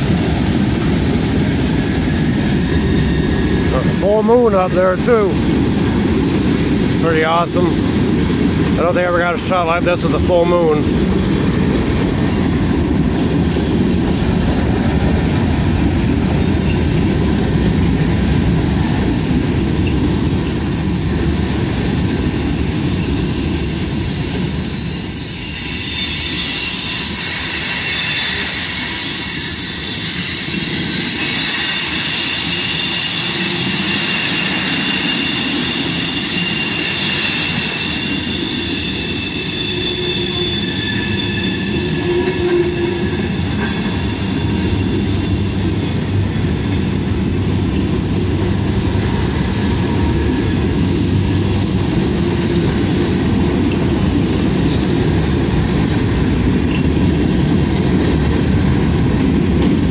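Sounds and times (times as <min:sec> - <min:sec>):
train wheel squealing: 0:00.0 - 0:59.7
train wheels rumbling on rails: 0:00.0 - 0:59.9.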